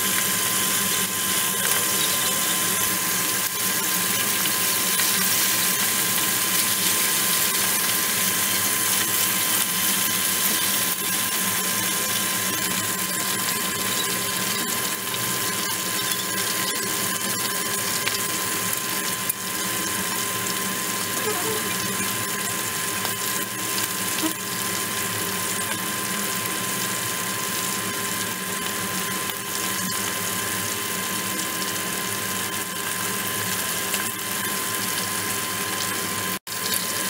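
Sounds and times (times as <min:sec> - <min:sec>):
chicken wings sizzling in oil: 0:00.0 - 0:37.0.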